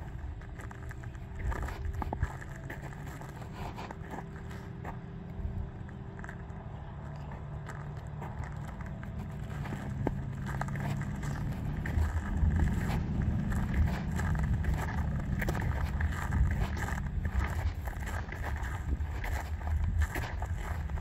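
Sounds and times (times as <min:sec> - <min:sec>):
footsteps on icy ground: 0:00.0 - 0:21.0
road traffic rumble: 0:00.0 - 0:21.0
vehicle approaching: 0:00.0 - 0:21.0.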